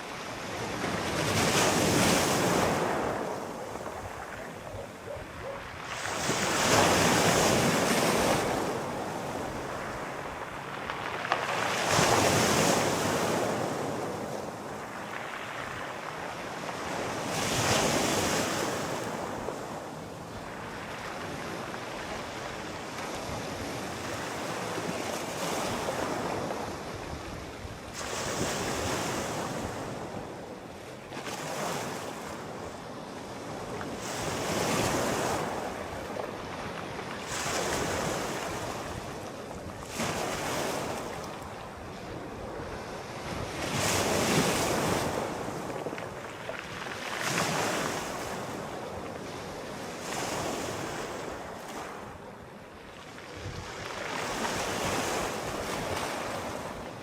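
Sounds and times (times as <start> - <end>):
sea waves breaking: 0.0 - 57.0.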